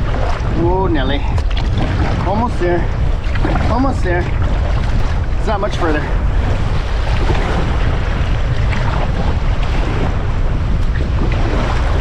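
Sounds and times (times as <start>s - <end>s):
choppy water washing around canoe: 0.0s - 12.0s
wind buffeting microphone: 0.0s - 12.0s.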